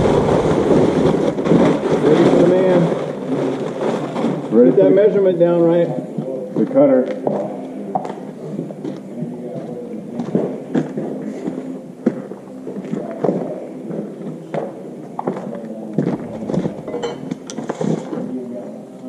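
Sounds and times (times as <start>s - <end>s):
footsteps: 0.0s - 18.7s
steady low hum: 0.0s - 19.0s.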